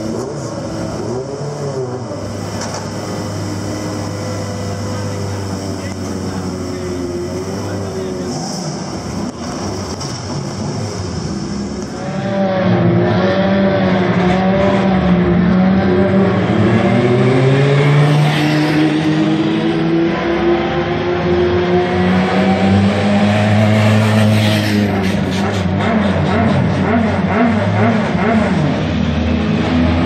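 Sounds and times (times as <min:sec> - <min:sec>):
race car engines at low revs: 0:00.0 - 0:30.0.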